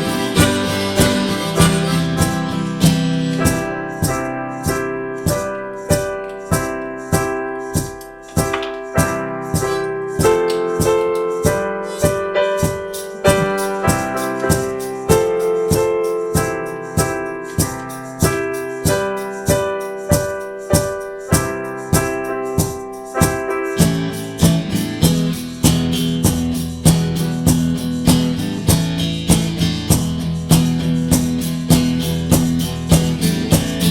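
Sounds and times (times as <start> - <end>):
keyboard chords and melody: 0.0 - 33.9
steady beat: 0.0 - 33.9.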